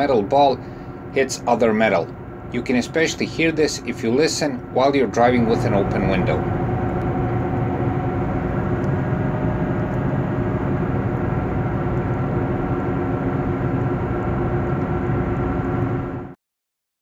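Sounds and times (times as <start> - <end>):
wheel bearing hum: 0.0 - 16.3.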